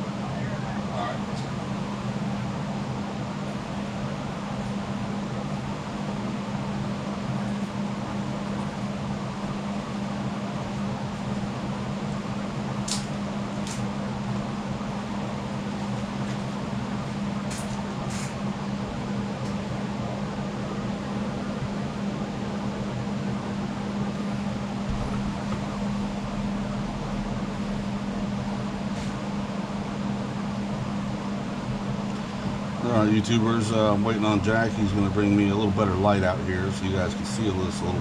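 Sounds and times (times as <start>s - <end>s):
fan-like mechanical hum: 0.0s - 38.0s.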